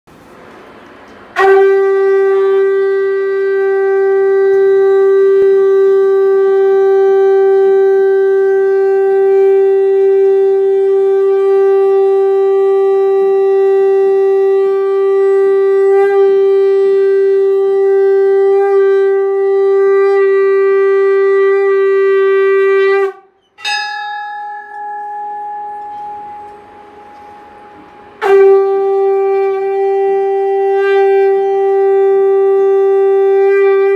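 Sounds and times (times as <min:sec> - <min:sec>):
conch shell blast: 0:01.3 - 0:33.9
higher conch note: 0:01.3 - 0:33.9.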